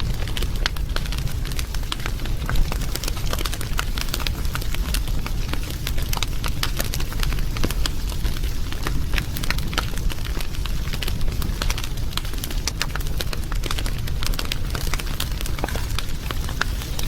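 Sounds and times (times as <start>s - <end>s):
low rumble of flames: 0.0s - 17.0s
wood fire popping: 0.0s - 17.0s.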